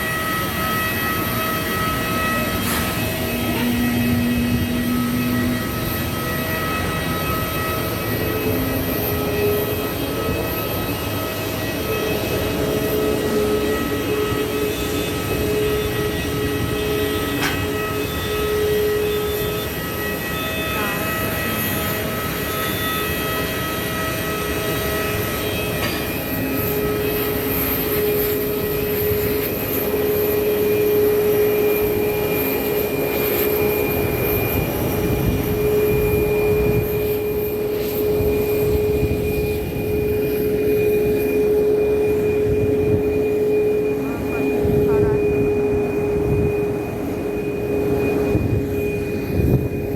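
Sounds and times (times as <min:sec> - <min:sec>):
jet cabin air and engine rush: 0:00.0 - 0:49.9
steady whining tones: 0:00.0 - 0:49.9.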